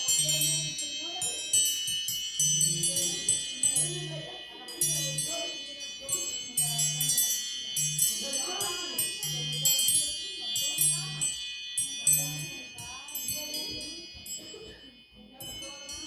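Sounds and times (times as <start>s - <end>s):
tinkling chime alert tone: 0.0s - 16.0s.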